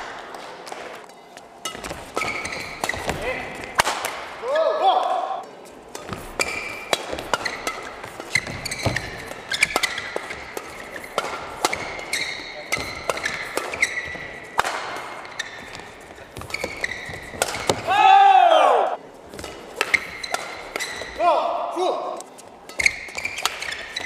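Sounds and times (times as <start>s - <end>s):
rackets striking shuttlecock: 0.0s - 4.4s, 5.8s - 17.9s, 19.3s - 21.2s, 22.7s - 24.0s
shoes squeaking on court: 0.6s - 3.8s, 5.5s - 17.9s, 19.2s - 21.2s, 22.3s - 24.0s.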